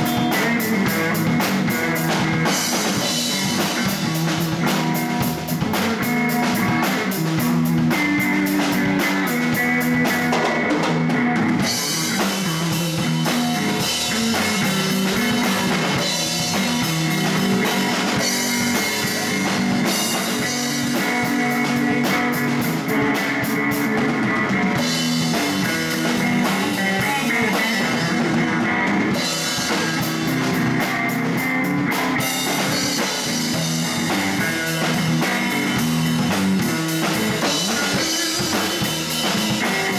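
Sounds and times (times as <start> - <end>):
bass guitar: 0.0 - 39.9
drum kit with cymbals: 0.0 - 39.9
electric guitar: 0.0 - 39.9.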